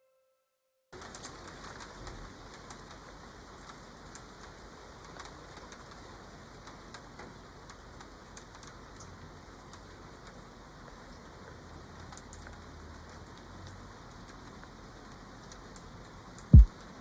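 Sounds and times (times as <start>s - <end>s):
light ticks and patters: 1.0s - 17.0s.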